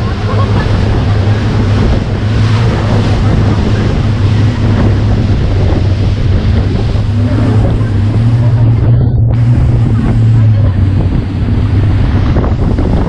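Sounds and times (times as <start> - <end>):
motorboat engine running: 0.0 - 13.0
rushing water: 0.0 - 13.0
wind buffeting microphone: 0.0 - 13.0.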